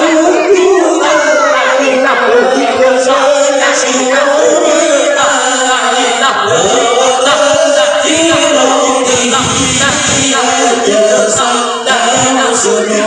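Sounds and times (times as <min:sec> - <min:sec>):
congregation chanting in unison: 0:00.0 - 0:13.0.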